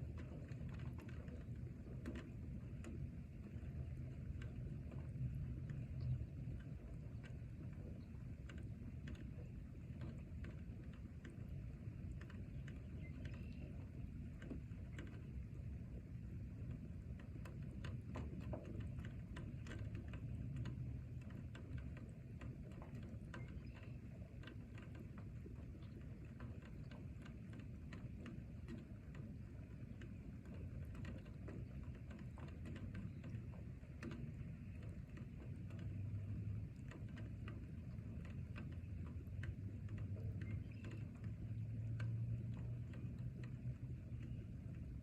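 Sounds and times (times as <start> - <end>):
raindrops ticking on surfaces: 0.0 - 45.0.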